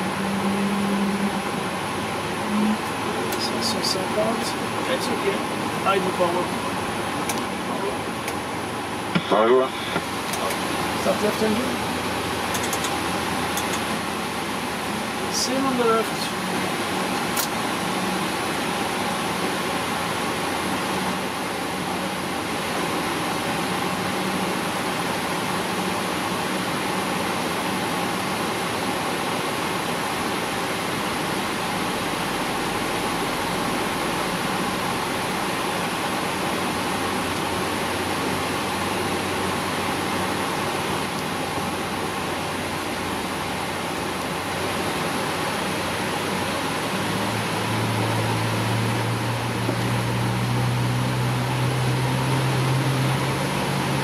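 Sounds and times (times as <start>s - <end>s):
faint constant hum: 0.0s - 54.0s.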